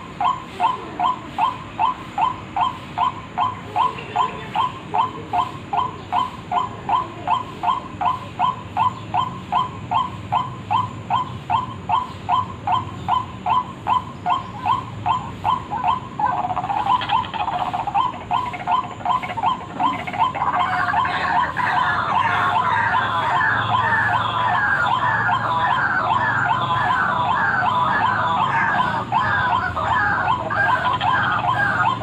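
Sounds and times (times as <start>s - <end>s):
bird chattering chorus: 0.0s - 32.0s
bird repeated short calls: 0.0s - 32.0s.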